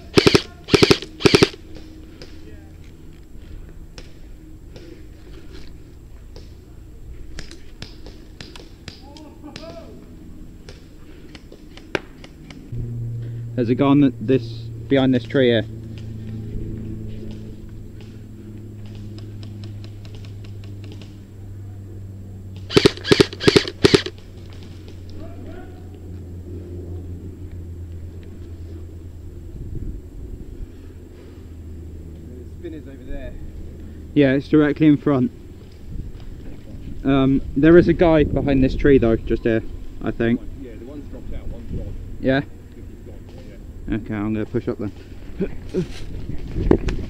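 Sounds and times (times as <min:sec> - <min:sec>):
steady low rumble: 0:00.0 - 0:47.0.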